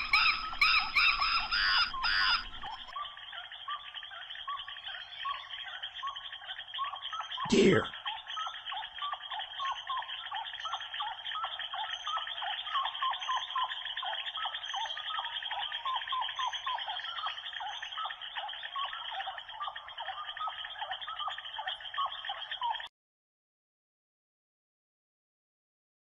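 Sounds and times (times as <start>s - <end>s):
chorus of chirping animal calls: 0.0s - 22.9s.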